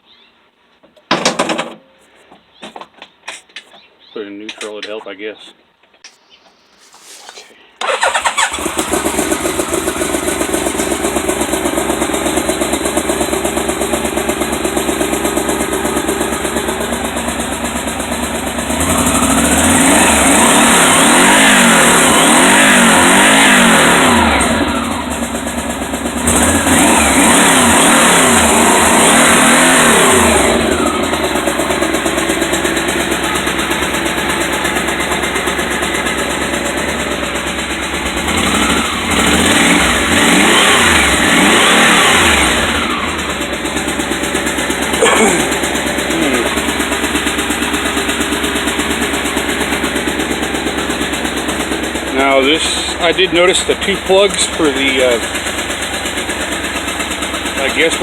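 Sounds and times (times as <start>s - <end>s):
motorcycle engine idling and revving: 7.8s - 58.0s.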